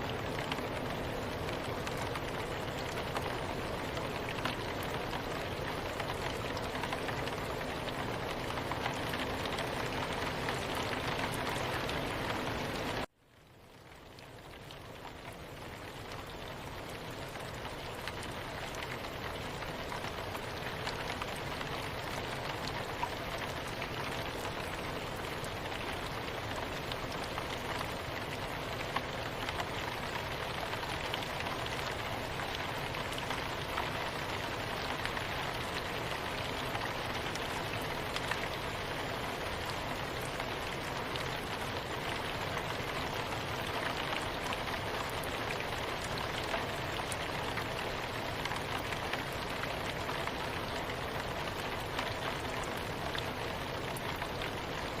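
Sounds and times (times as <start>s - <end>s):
soft rain hiss: 0.0s - 55.0s
raindrops ticking: 0.1s - 55.0s.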